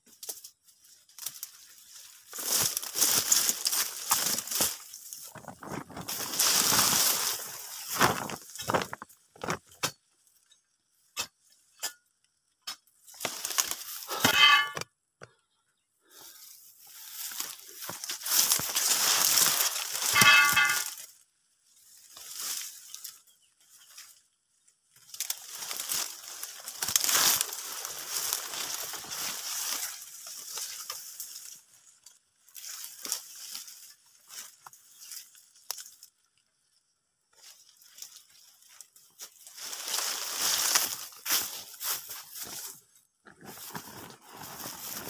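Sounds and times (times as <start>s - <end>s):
dry palm fronds rustling: 0.0s - 9.8s, 13.0s - 14.8s, 16.0s - 45.0s.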